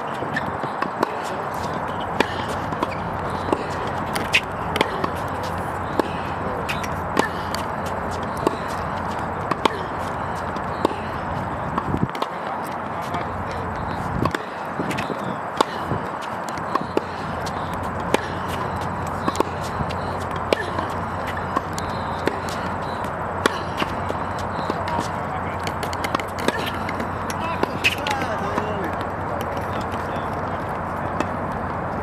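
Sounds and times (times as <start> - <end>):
racket hitting tennis ball: 0.0 - 30.2
tennis ball bouncing: 0.0 - 31.7
steady background noise: 0.0 - 32.0.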